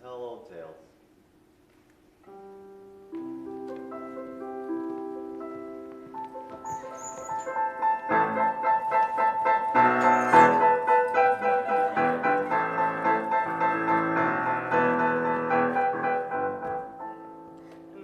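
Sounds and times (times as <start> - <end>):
piano music: 2.2 - 18.0.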